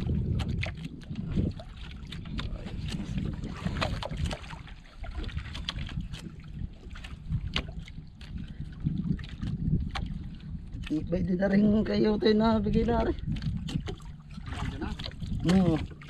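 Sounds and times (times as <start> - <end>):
light ticks and splashes: 0.0 - 16.0
water lapping around boat: 0.0 - 16.0
wind rumbling on microphone: 0.0 - 16.0.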